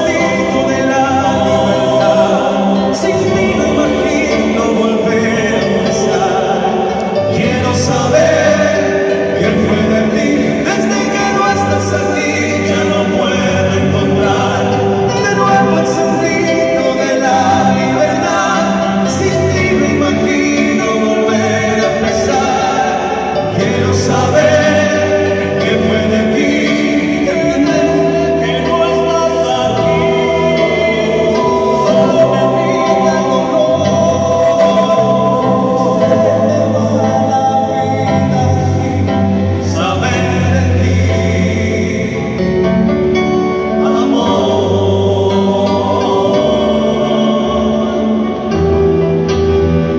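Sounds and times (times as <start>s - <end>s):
several voices singing together: 0.0s - 42.5s, 43.7s - 48.7s
live band music: 0.0s - 49.9s.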